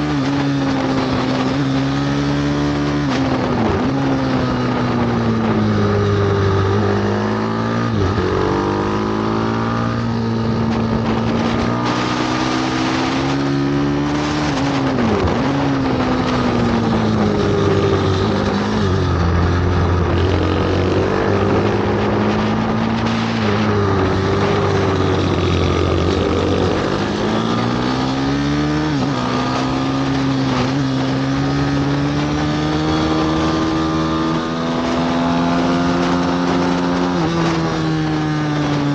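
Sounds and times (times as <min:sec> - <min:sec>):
motorbike engine revving hard: 0:00.0 - 0:38.9.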